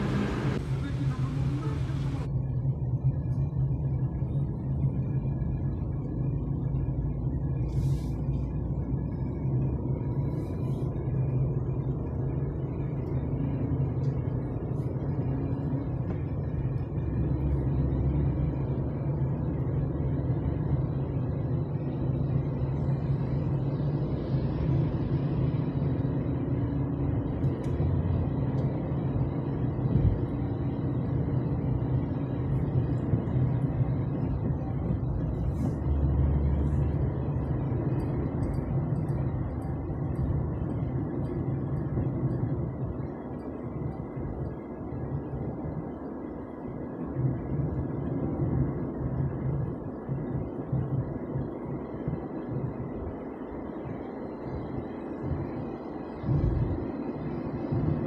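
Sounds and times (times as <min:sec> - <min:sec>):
vehicle running rumble: 0:00.0 - 0:58.0.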